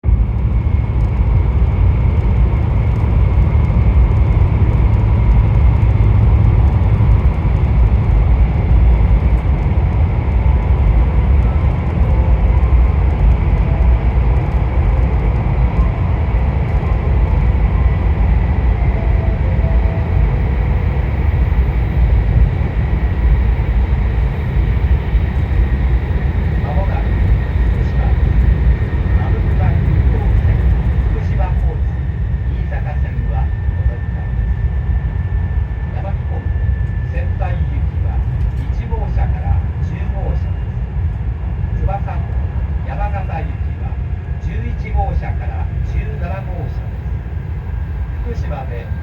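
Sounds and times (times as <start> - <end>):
deep train rumble: 0.0 - 49.0
faint hum: 0.1 - 49.0.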